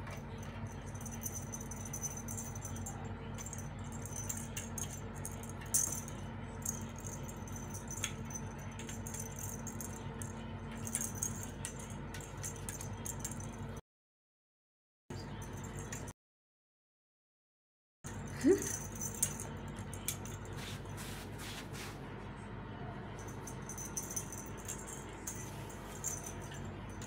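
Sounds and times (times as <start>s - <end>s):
steady low hum: 0.0s - 13.8s, 18.1s - 27.0s.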